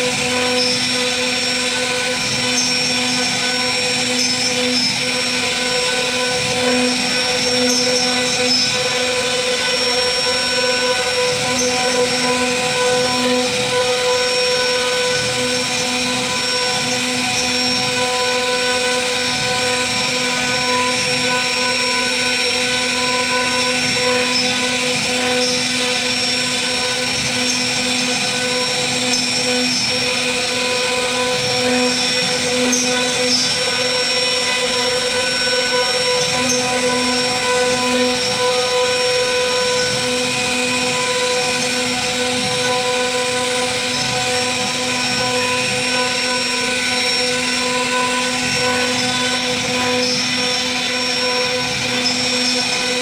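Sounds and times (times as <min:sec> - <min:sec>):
router spindle whining while carving wood: 0:00.0 - 0:53.0.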